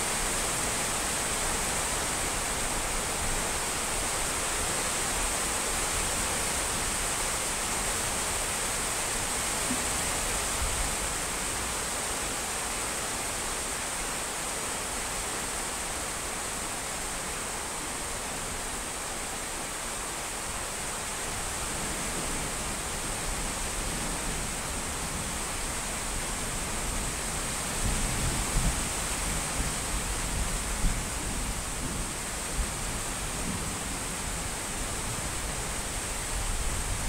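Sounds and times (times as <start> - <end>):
steady rain: 0.0 - 37.0.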